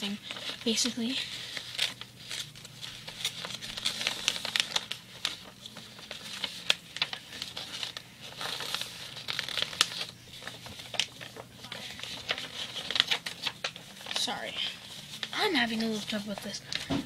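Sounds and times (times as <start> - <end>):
paper crinkling and crackling: 0.0 - 17.0.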